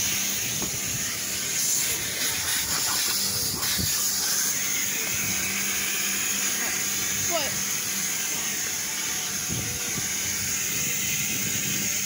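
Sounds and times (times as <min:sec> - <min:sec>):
vacuum hose hissing: 0:00.0 - 0:12.0.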